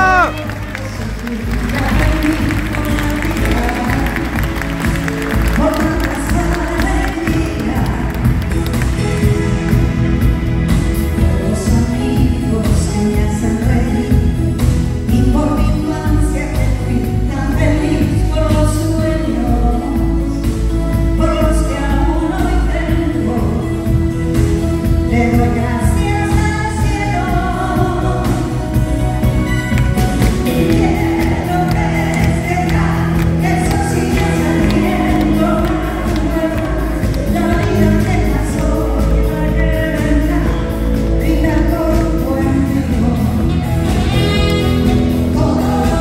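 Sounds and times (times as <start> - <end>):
woman singing into a microphone: 0.0 - 8.4, 11.2 - 24.2, 24.8 - 29.0, 30.4 - 46.0
pop band playing: 0.0 - 46.0.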